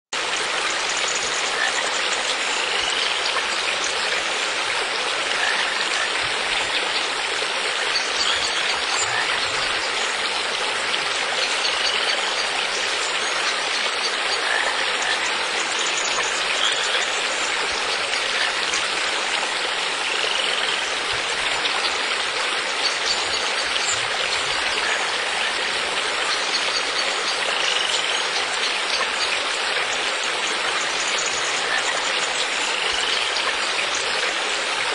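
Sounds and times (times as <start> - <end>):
flowing water: 0.1 - 34.9.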